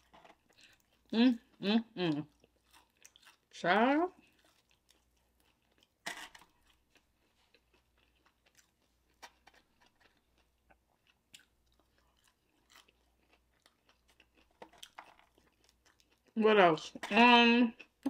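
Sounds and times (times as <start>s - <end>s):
faint chewing with mouth clicks: 0.0s - 16.4s.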